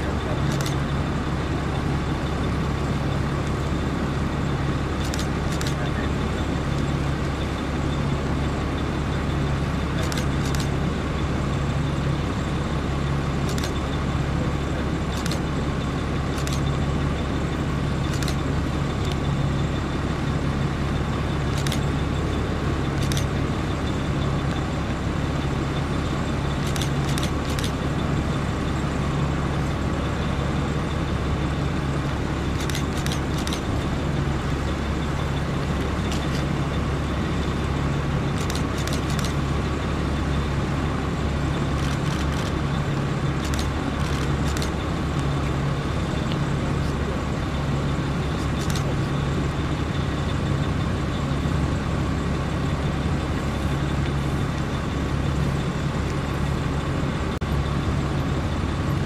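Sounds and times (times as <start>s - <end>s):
vehicle engines and tyres: 0.0s - 59.0s.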